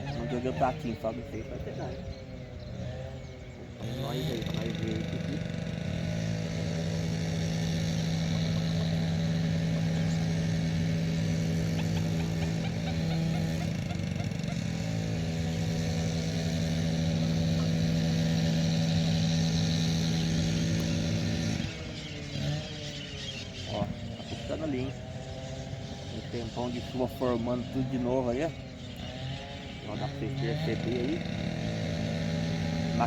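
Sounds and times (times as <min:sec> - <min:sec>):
heavy machinery engine droning: 0:00.0 - 0:33.0.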